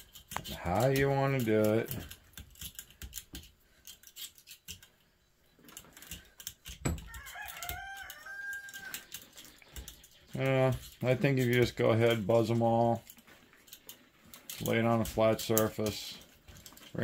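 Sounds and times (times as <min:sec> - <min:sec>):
screwdriver clicks and scrapes: 0:00.0 - 0:10.2, 0:13.0 - 0:17.0.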